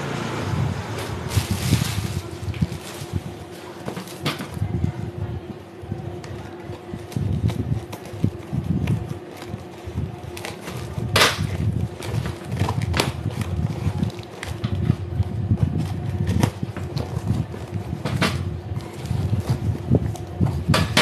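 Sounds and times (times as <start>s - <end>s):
cardboard scraping and rustling: 0.9s - 5.1s, 6.2s - 21.0s.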